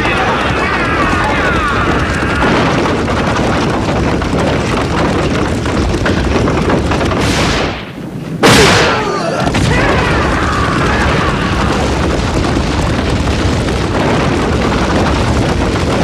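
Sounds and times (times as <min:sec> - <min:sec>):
din of horsemen charging: 0:00.0 - 0:16.0
wooden ram crashing into gate: 0:00.0 - 0:16.0.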